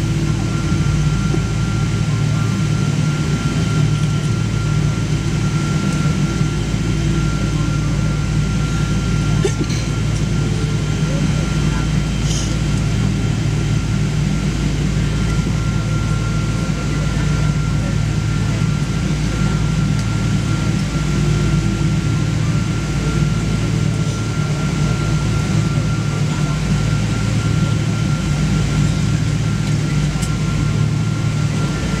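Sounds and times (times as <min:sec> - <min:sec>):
aircraft cabin hum: 0:00.0 - 0:32.0
faint steady whine: 0:00.0 - 0:32.0.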